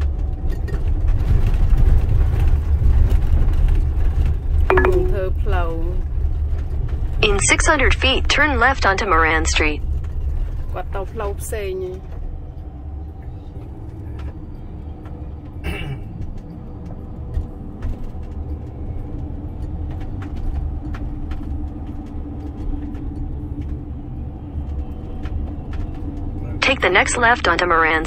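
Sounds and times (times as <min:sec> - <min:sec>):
car engine and tyres rumbling: 0:00.0 - 0:07.2, 0:09.8 - 0:27.0.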